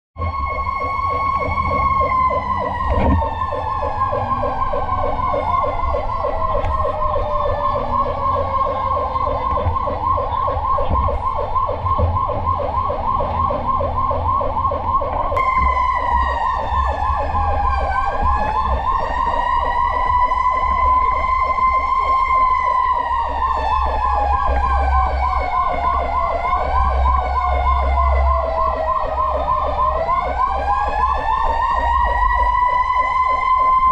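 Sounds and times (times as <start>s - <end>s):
fast pulsing siren warble: 0.2s - 33.9s
fire truck sirens wailing: 0.2s - 33.9s.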